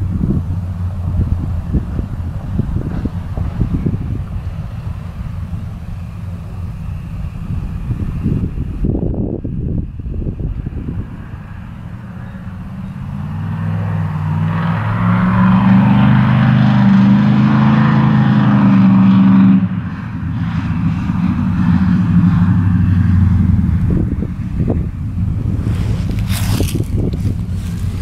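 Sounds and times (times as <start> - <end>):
pickup truck engine driving by: 0.0 - 28.0.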